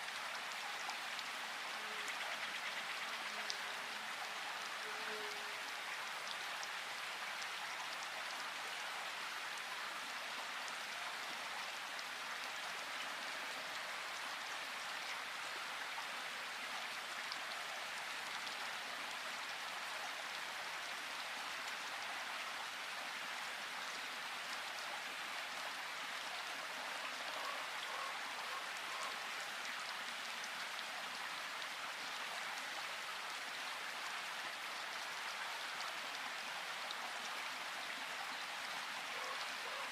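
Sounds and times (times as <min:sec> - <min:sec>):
steady rain in forest: 0:00.0 - 0:39.9.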